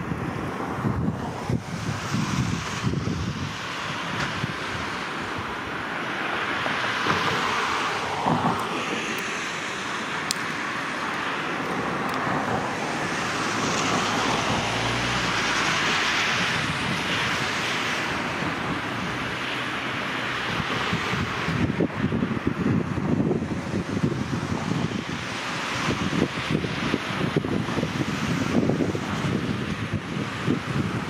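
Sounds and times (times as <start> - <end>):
road traffic noise: 0.0 - 31.0
shallow river water rushing: 0.0 - 31.0
vehicle passing rumble: 0.0 - 31.0.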